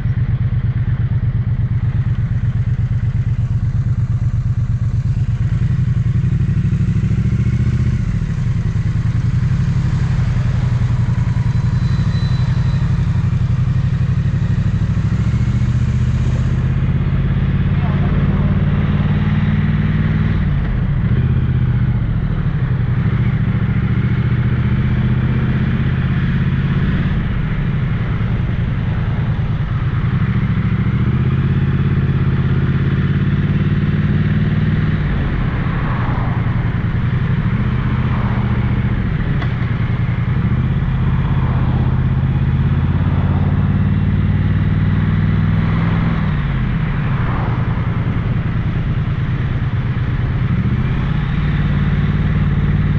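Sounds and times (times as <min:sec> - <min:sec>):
motorcycle engine revving: 0:00.0 - 0:52.9
wind and road noise: 0:00.0 - 0:52.9.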